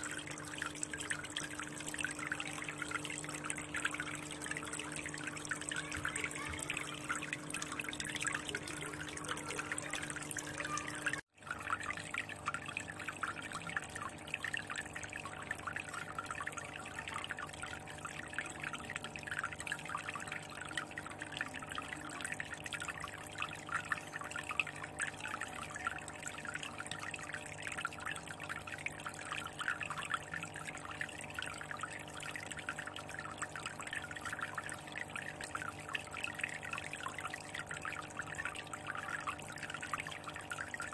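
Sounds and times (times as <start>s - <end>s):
aquarium water trickling: 0.0s - 40.9s
faint steady hum: 0.0s - 40.9s.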